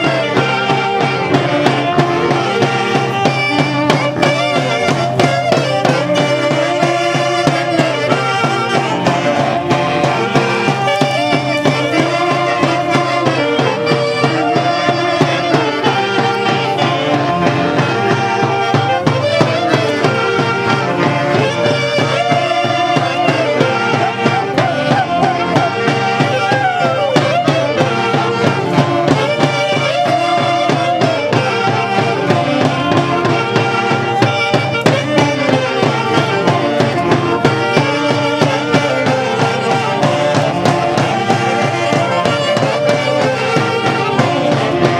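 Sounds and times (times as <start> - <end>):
saxophones: 0.0 - 44.9
steady beat: 0.0 - 44.9
violins: 0.0 - 44.9.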